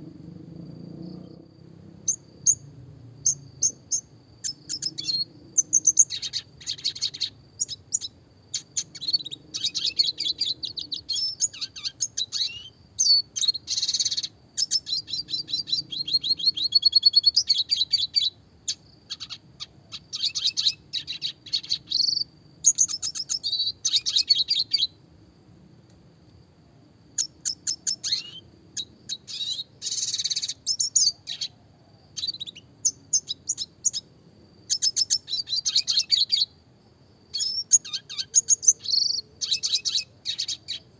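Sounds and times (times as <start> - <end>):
bird chirps and twittering trills: 0.6 - 25.0, 27.1 - 36.6, 37.3 - 40.9.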